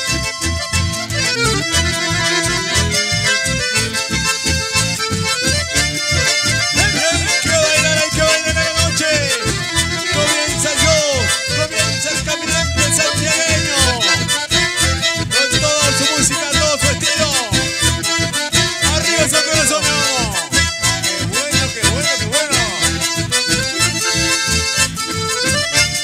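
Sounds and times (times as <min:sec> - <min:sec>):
accordion: 0:00.0 - 0:26.0
acoustic guitar: 0:00.0 - 0:26.0
steady bass beat: 0:00.0 - 0:26.0.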